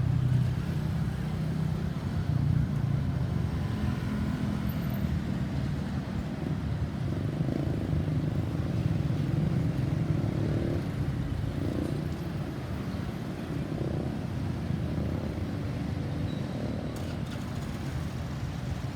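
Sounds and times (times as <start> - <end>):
road traffic rumble: 0.0 - 18.9.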